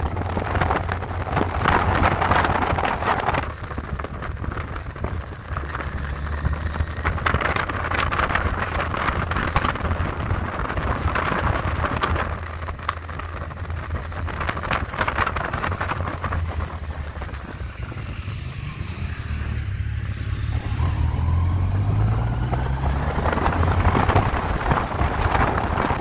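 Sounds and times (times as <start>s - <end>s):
motorcycle engine hum: 0.0s - 26.0s
wind rushing over microphone: 0.0s - 26.0s.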